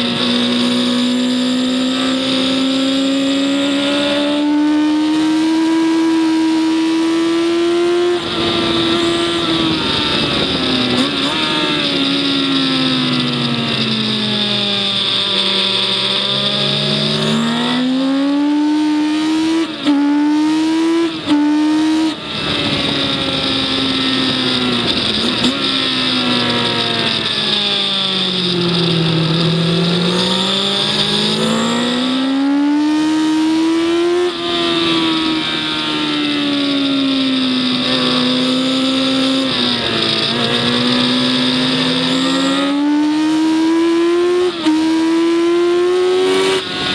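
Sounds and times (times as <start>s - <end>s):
gear changes: 0.0s - 46.9s
race car engine revving: 0.0s - 46.9s.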